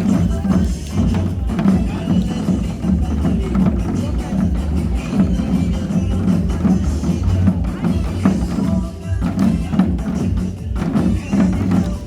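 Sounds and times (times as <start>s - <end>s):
backing music: 0.0s - 12.0s
group drumming: 0.0s - 12.0s.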